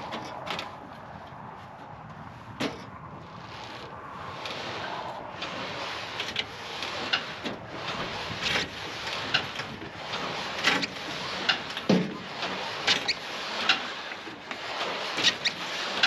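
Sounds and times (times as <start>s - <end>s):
knocks clicks and scrapes of metal: 0.0s - 16.0s.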